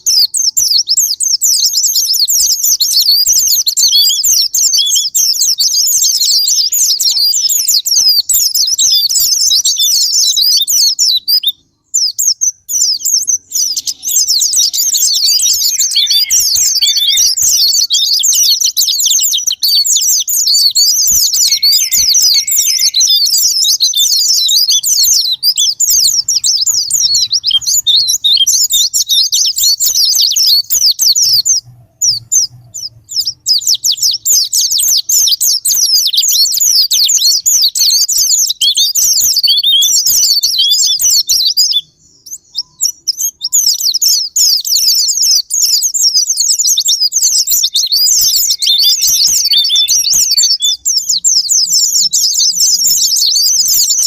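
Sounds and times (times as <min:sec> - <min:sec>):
white-eye bird twittering song: 0:00.0 - 0:54.0.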